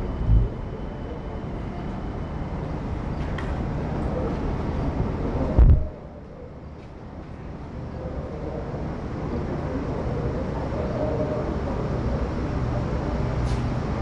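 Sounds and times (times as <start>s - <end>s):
electric train rumble and hum: 0.0s - 14.0s
faint whine: 0.0s - 14.0s.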